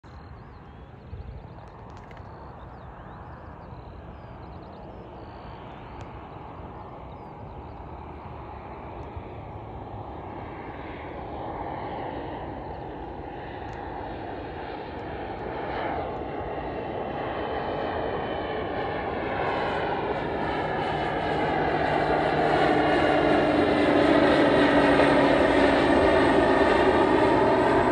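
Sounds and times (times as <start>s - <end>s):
turboprop aircraft engine: 0.0s - 27.9s.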